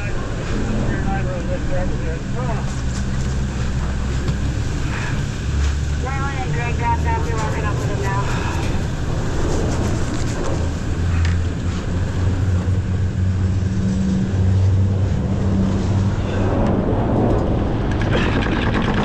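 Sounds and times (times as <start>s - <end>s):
constant rushing noise: 0.0s - 19.0s
engine running steadily: 0.0s - 19.0s.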